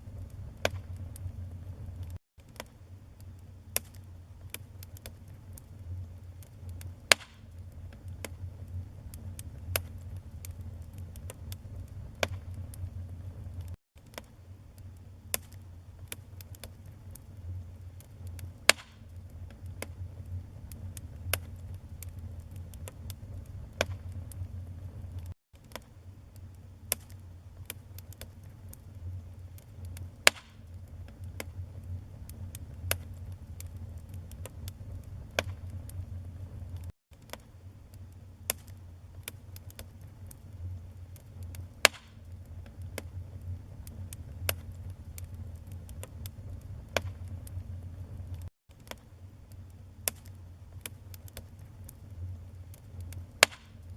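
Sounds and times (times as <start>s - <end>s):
fire crackling and popping: 0.0s - 53.9s
fire flames rumbling: 0.0s - 53.9s.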